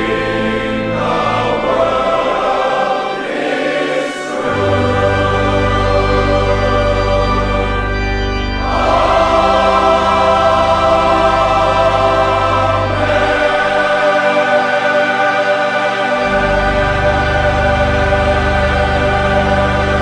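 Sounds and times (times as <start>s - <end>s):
choir singing held chords: 0.0s - 20.0s
musical accompaniment: 0.0s - 20.0s.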